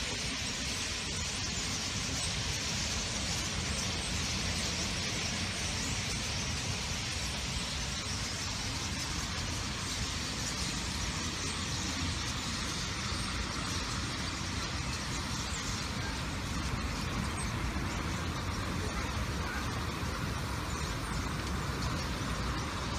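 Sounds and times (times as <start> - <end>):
city traffic rumble: 0.0 - 22.9.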